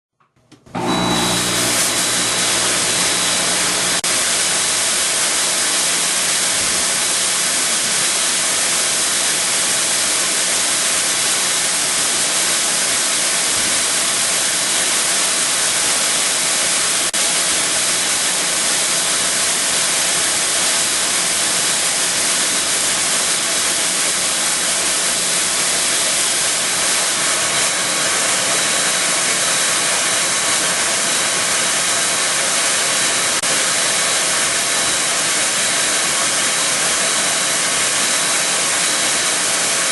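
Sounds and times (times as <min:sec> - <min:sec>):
fog generator hissing: 0:00.8 - 0:39.9.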